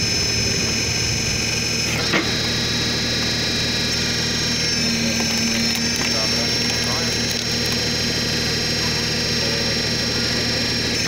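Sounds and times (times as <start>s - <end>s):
wood splitter droning with whine: 0.0s - 11.0s.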